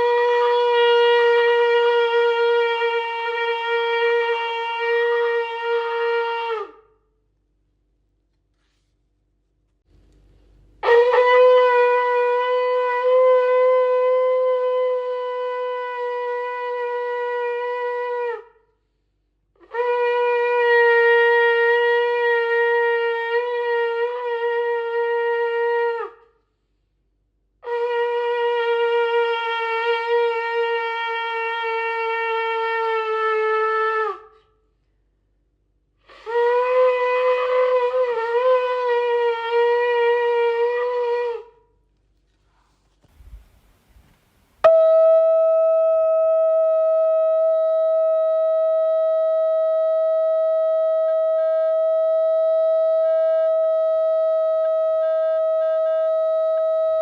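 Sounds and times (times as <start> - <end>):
shofar blasts: 0.0 - 7.1, 10.8 - 18.7, 19.6 - 26.4, 27.6 - 34.5, 36.0 - 41.8, 42.6 - 57.0.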